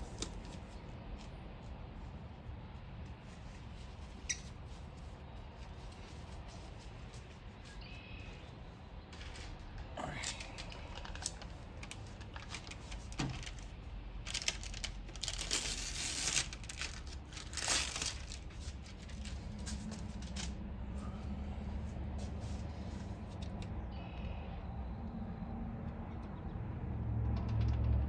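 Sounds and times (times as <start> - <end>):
scraping and rustling: 0.0 - 23.5.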